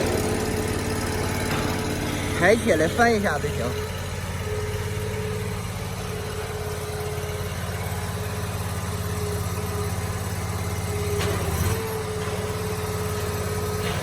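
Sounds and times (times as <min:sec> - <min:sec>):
constant whine: 0:00.0 - 0:14.0
loader engine running: 0:00.0 - 0:14.0.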